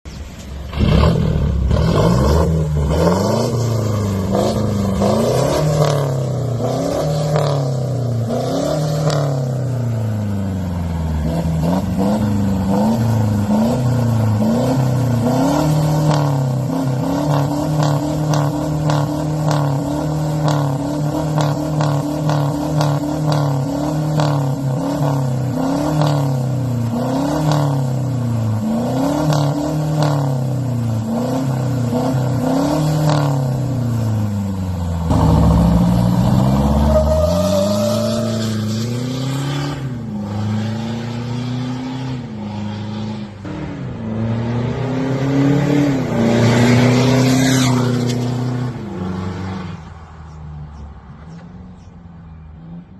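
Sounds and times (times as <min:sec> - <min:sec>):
pickup engine revving: 0:00.6 - 0:49.6.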